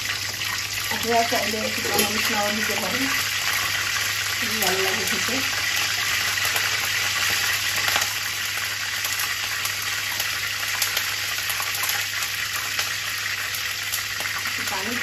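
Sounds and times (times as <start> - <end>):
oil sizzling with crackles: 0.0 - 15.0.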